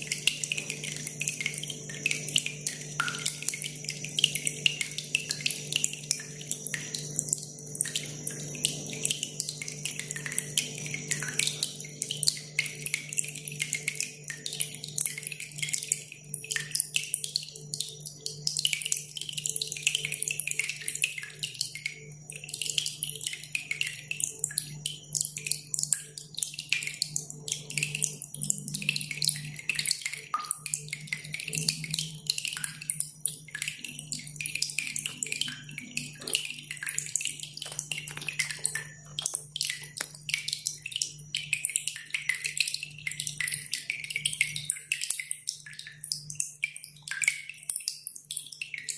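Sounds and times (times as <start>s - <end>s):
water dripping: 0.0s - 48.9s.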